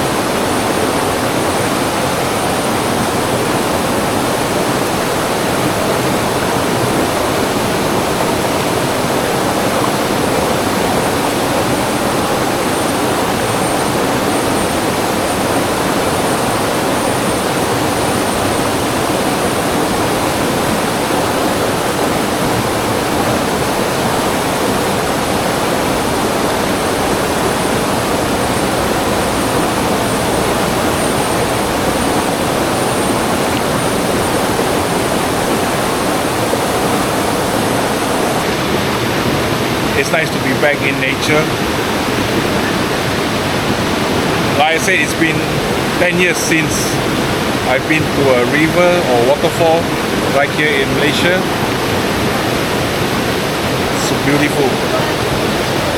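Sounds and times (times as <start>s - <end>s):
river water rushing over rocks: 0.0s - 55.9s.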